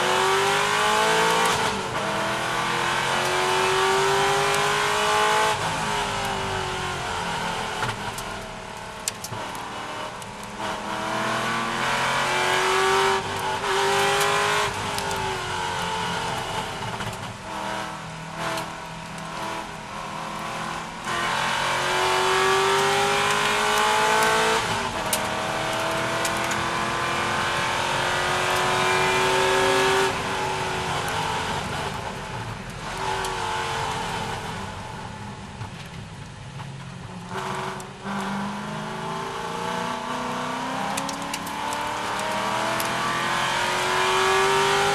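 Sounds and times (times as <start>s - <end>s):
car engine at full throttle: 0.0s - 44.9s.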